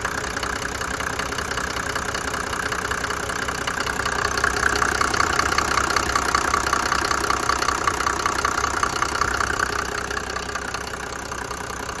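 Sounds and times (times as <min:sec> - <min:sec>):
diesel engine clattering: 0:00.0 - 0:12.0.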